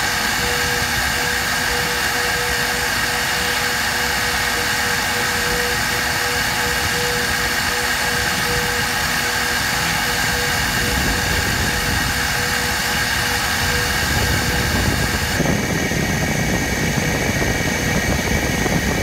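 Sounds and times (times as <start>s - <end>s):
spindle engraving steel: 0.0s - 19.0s.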